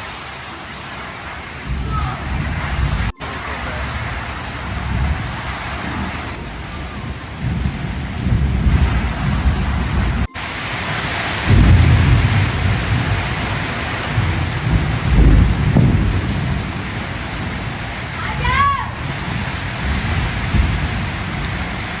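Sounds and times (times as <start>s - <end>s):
heavy rain pouring: 0.0s - 22.0s
deep thunder rumbles: 0.1s - 22.0s.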